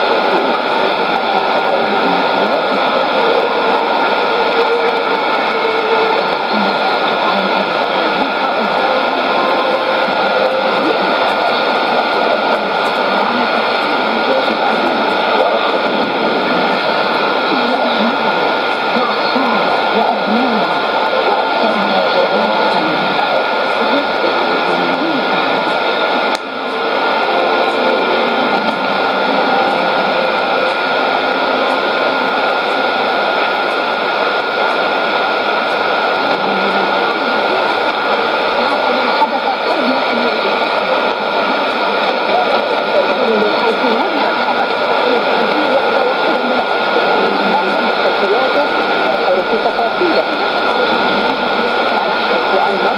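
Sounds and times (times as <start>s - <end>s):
faint radio voice: 0.0s - 52.9s
radio static hiss: 0.0s - 52.9s.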